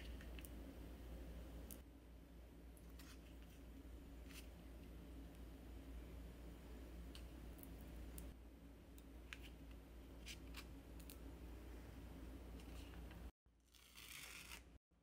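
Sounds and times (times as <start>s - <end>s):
low steady hum: 0.0s - 13.3s.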